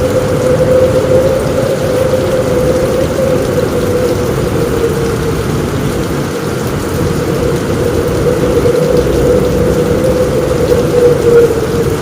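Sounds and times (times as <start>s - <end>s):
rain on a roof: 0.0s - 12.0s
storm wind rumbling: 0.0s - 12.0s.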